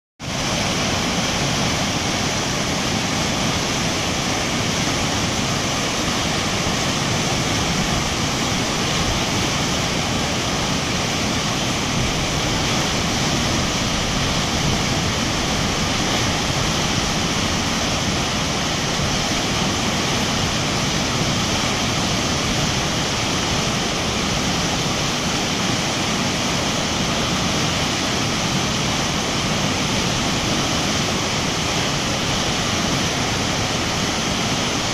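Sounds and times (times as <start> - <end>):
river rapids rushing: 0.2 - 34.9.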